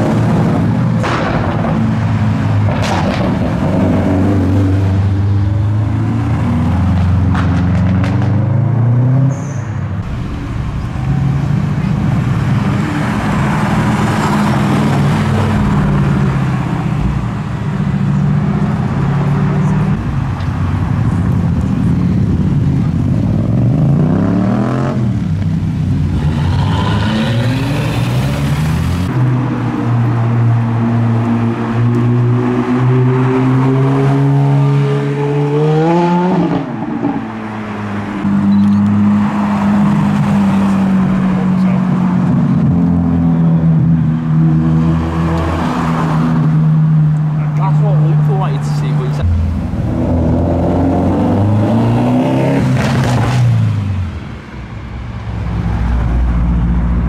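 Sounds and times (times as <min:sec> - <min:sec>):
car engines revving past: 0:00.0 - 0:57.0.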